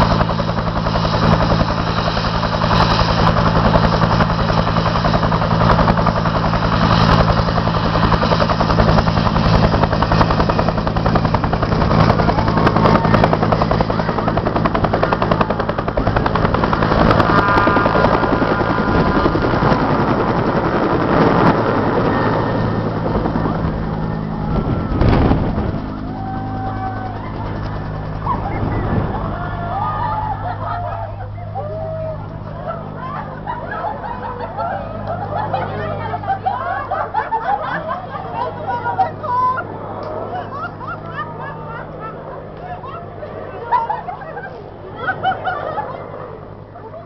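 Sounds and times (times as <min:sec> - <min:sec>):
helicopter engine drone: 0:00.0 - 0:47.0
helicopter rotor chop: 0:00.0 - 0:47.0.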